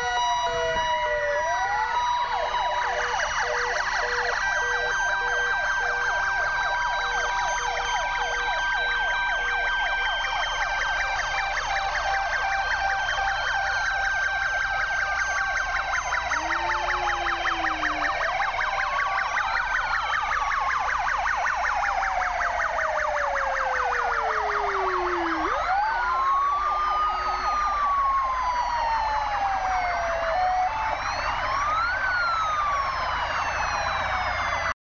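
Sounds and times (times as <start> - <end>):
fire engine sirens wailing: 0.0 - 34.8.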